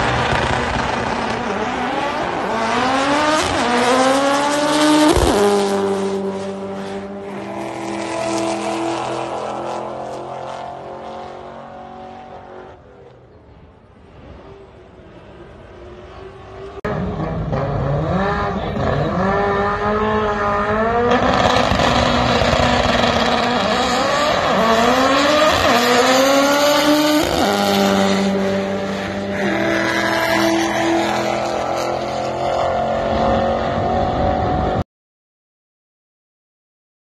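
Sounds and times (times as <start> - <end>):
car engine accelerating hard: 0.0 - 13.3, 14.7 - 34.8.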